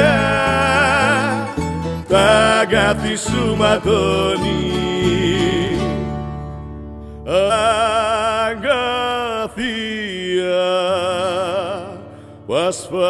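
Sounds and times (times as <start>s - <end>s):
man singing with vibrato: 0.0s - 6.2s, 7.2s - 13.0s.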